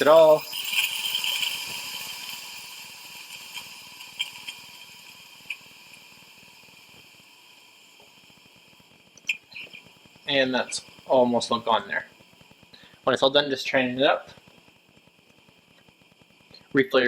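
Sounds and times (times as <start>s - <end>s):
steam wand hissing: 0.0s - 17.0s.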